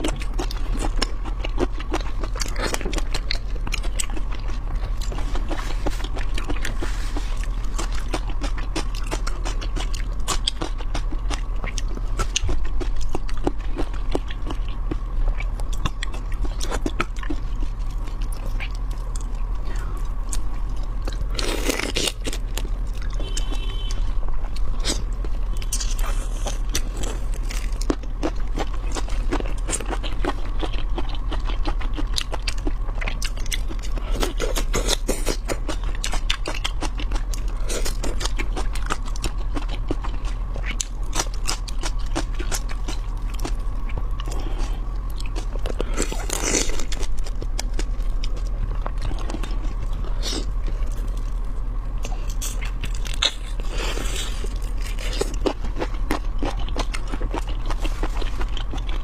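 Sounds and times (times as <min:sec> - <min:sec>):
crunching and chewing shrimp: 0:00.0 - 0:59.0
faint steady hum: 0:00.0 - 0:59.0.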